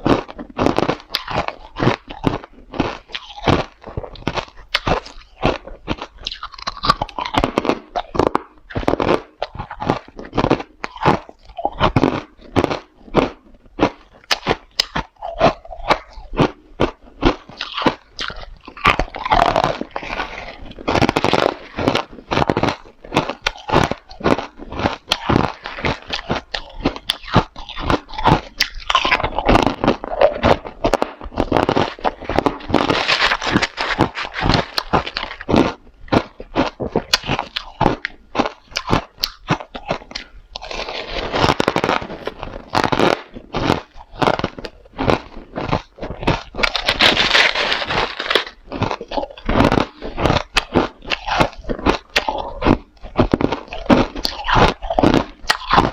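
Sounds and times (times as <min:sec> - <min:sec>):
ice being chewed: 0:00.0 - 0:55.9.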